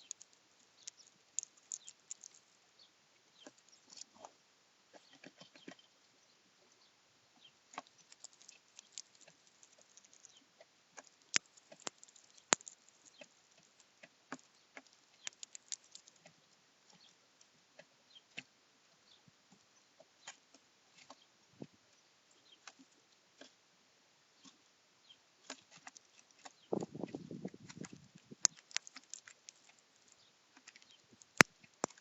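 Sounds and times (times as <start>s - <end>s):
birds pecking and cracking seeds: 0.0s - 21.4s, 22.3s - 23.6s, 24.4s - 32.0s.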